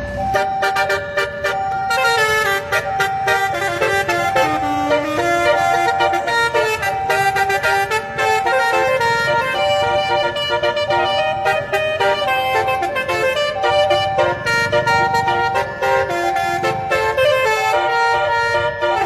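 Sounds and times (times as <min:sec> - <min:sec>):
multi-tone musical horn melody: 0:00.2 - 0:19.0.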